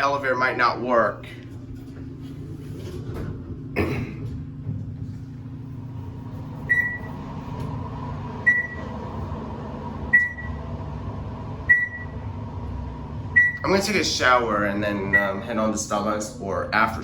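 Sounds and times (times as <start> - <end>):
elevator machinery hum: 0.0 - 17.0.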